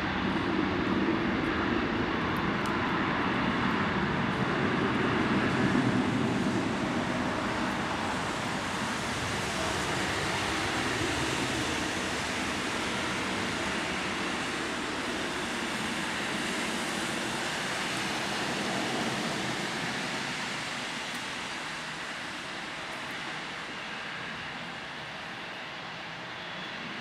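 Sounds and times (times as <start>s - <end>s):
jet engines rushing at takeoff: 0.0s - 27.0s.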